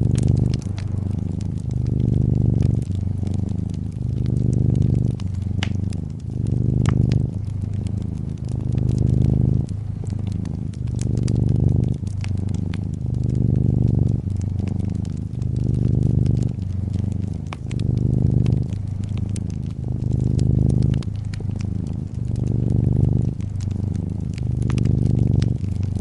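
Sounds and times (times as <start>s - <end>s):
cat purring: 0.0s - 26.0s
wood fire crackling: 0.0s - 26.0s.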